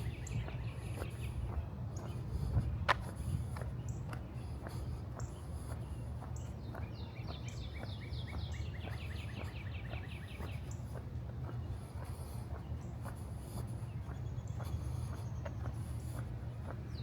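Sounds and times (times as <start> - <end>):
footsteps walking: 0.0 - 17.0
wind rumbling on microphone: 0.0 - 17.0.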